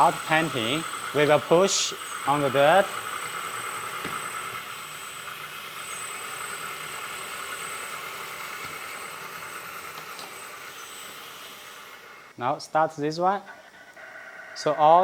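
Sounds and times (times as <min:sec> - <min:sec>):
simulated diesel engine: 0:00.0 - 0:15.0.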